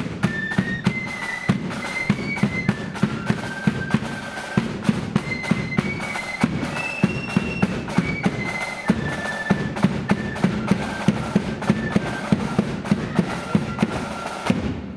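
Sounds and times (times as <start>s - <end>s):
flute melody: 0.0s - 14.7s
snare and bass drum beats: 0.0s - 14.9s.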